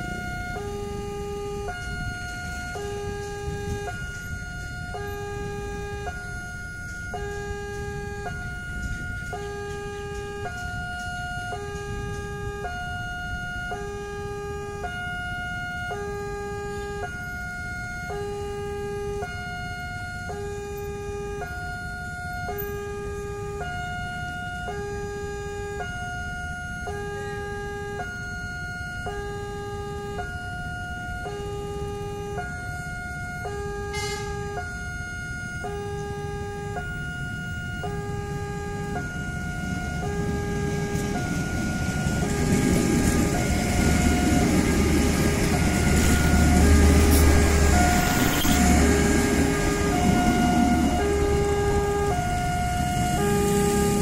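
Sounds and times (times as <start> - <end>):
train rumble: 0.0 - 25.6, 29.4 - 54.0
two-tone crossing alarm: 0.0 - 54.0.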